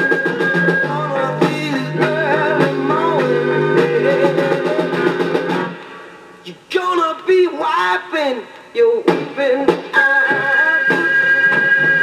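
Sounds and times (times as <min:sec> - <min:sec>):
rock and roll record on small speaker: 0:00.0 - 0:12.0.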